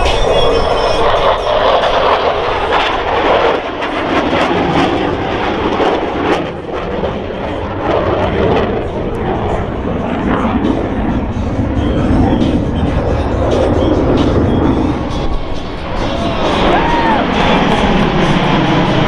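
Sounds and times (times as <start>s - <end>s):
jet engines flying past: 0.0s - 19.0s.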